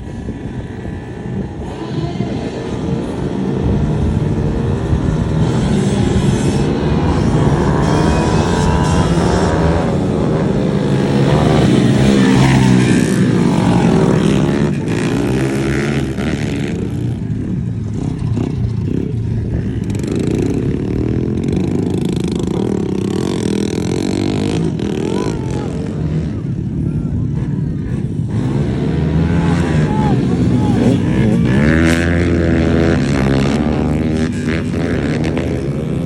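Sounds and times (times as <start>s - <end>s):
minibike engine revving: 0.0s - 36.0s.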